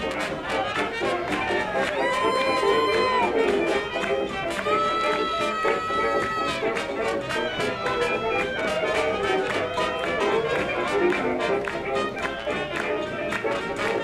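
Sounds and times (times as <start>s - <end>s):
brass band music with beat: 0.0s - 14.0s.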